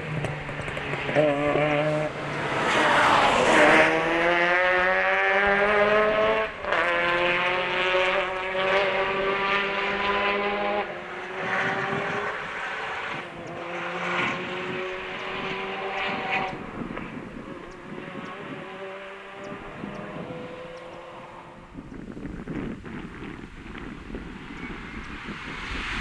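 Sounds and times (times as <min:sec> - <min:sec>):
rally car engine accelerating: 0:00.0 - 0:21.8.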